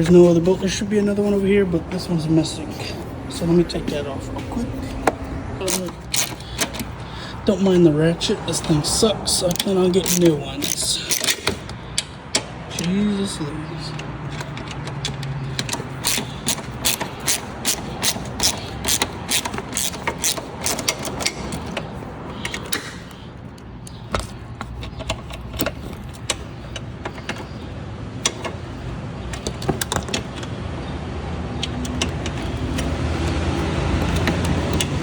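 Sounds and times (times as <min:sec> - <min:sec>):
socket ratchet clicking: 0:03.4 - 0:13.0, 0:13.6 - 0:30.6, 0:31.6 - 0:35.0.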